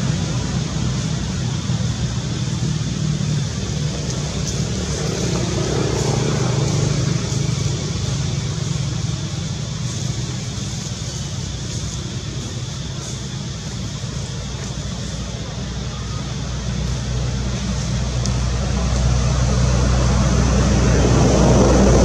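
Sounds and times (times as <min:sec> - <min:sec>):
low rumble: 0:00.0 - 0:22.0
outdoor hiss: 0:00.0 - 0:22.0.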